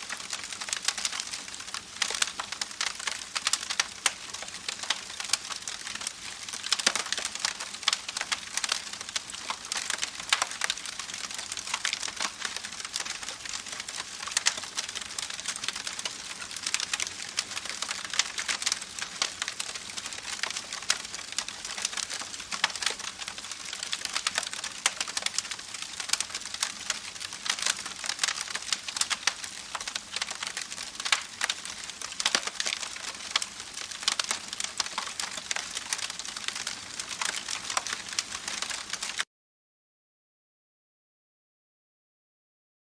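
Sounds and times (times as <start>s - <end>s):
campfire crackling: 0.0s - 39.2s.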